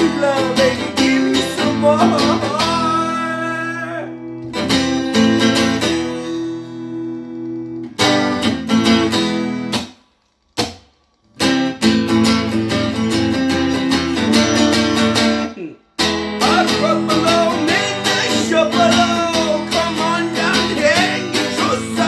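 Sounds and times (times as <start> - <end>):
amplified guitar strumming: 0.0 - 22.0.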